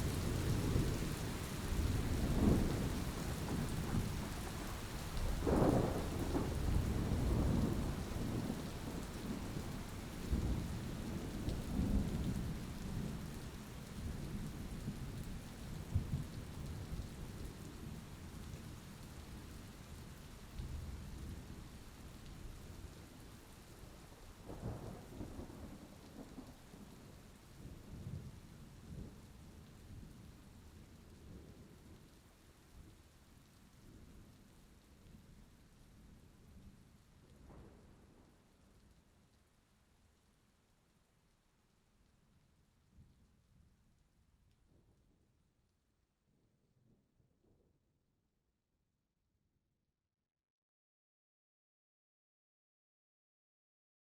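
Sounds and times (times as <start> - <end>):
steady rain: 0.0 - 44.7.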